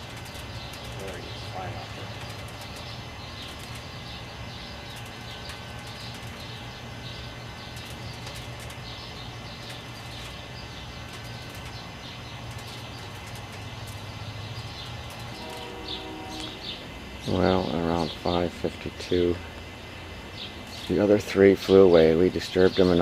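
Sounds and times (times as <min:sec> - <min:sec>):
bird chirping: 0:00.0 - 0:23.0
continuous low hum: 0:00.0 - 0:23.0.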